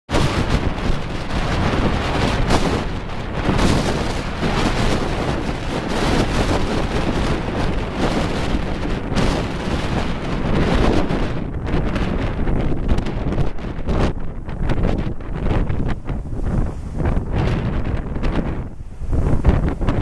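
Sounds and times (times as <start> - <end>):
wind buffeting microphone: 0.1 - 20.0.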